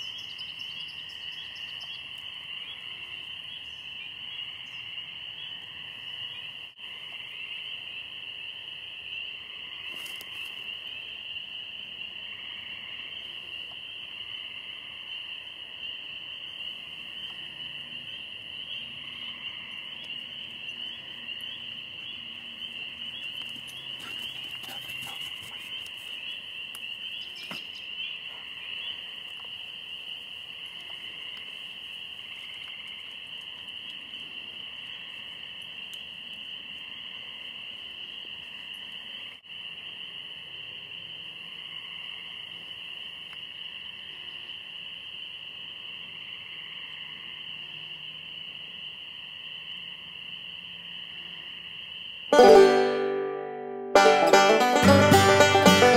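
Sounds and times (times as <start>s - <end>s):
shrill insect chorus: 0.0s - 52.4s.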